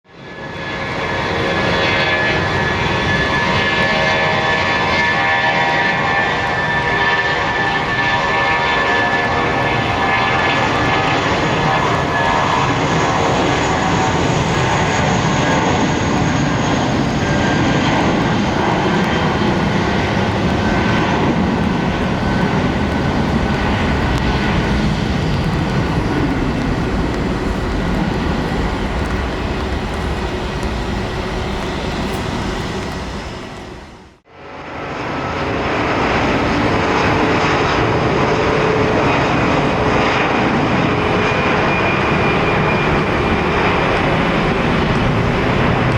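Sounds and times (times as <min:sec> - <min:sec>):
jet engines roaring with whine: 0:00.0 - 0:45.9.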